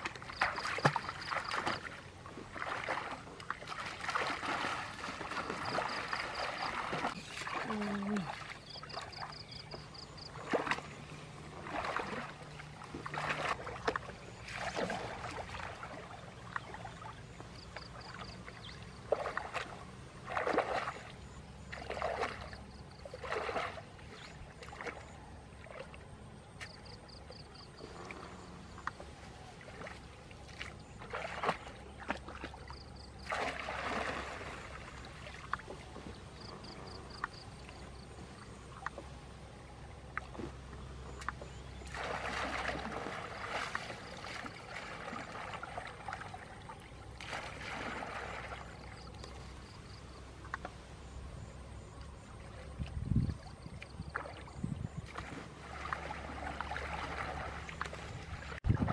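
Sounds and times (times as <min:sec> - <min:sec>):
water splashing and sloshing: 0:00.0 - 0:58.9.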